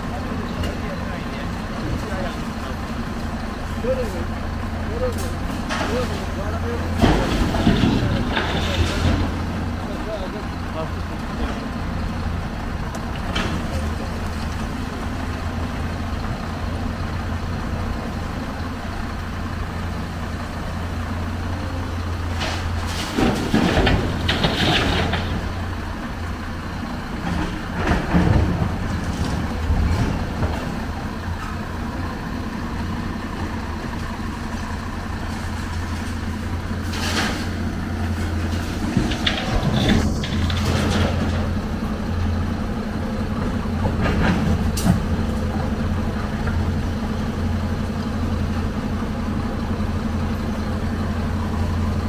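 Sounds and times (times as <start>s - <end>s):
diesel machinery humming: 0.0s - 52.0s.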